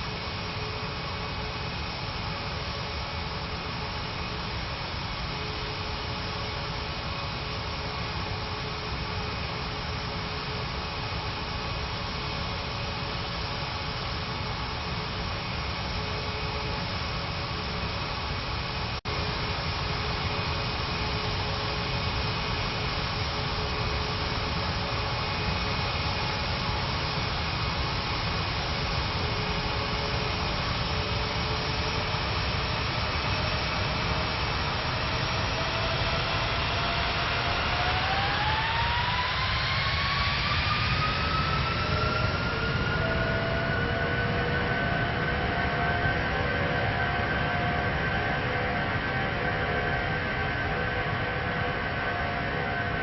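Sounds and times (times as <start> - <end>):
jet engine roaring rumble: 0.0 - 53.0
jet engine whine rising: 0.0 - 53.0.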